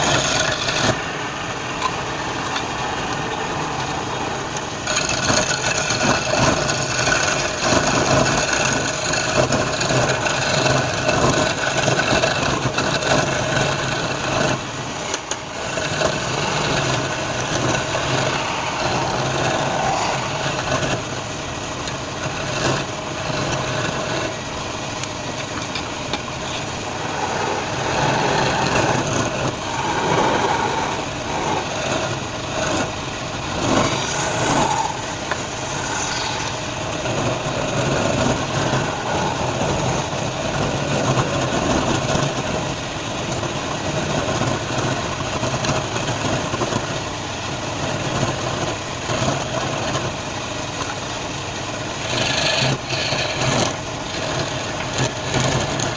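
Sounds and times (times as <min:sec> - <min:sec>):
tool scraping spinning wood: 0:00.0 - 0:55.9
wood lathe motor hum: 0:00.0 - 0:55.9.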